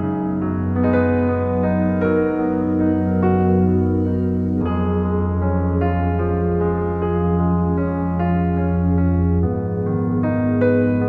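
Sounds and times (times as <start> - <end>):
low drone: 0.0 - 11.0
piano-like keyboard melody: 0.0 - 11.0.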